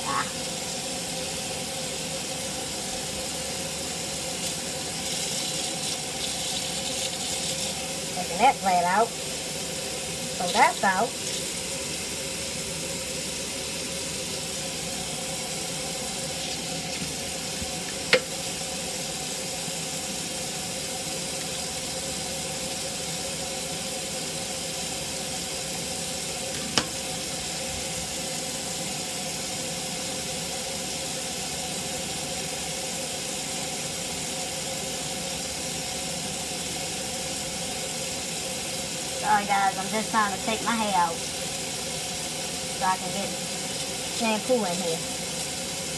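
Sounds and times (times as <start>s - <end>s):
faucet running into steel sink: 0.0s - 32.6s, 33.6s - 45.9s.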